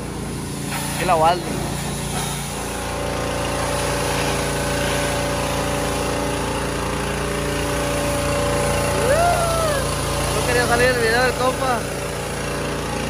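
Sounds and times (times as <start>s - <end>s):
pressure washer motor droning: 0.0s - 13.0s
water jet spraying: 0.0s - 13.0s.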